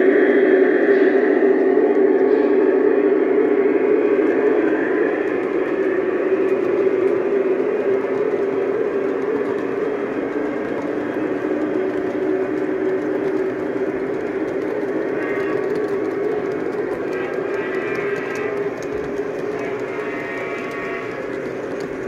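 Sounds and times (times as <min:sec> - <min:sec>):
model train wheels rolling: 0:04.0 - 0:22.0.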